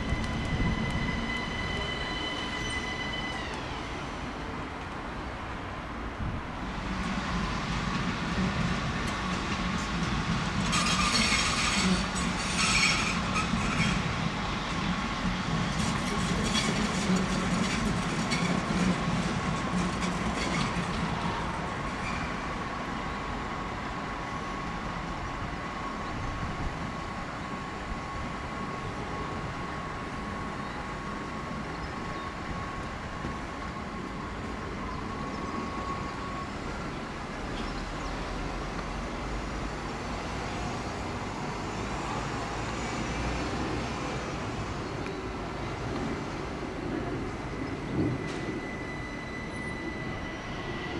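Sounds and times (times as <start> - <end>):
train rail rumble: 0.0 - 50.9.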